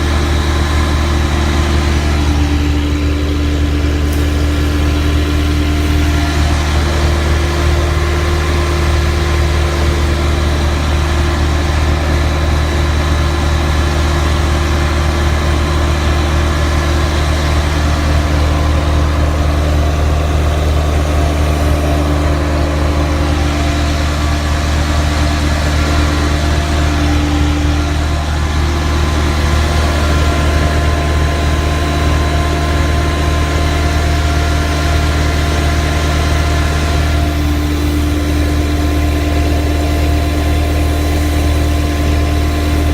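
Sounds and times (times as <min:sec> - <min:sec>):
carpet-cleaning machine engine hum: 0:00.0 - 0:42.9
steady whining tones: 0:00.0 - 0:42.9.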